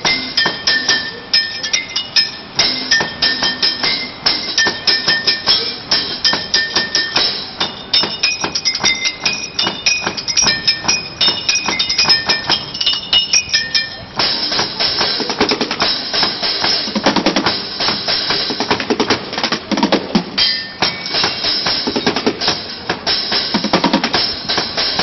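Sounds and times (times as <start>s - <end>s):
drumming on buckets and pans: 0.0s - 25.0s.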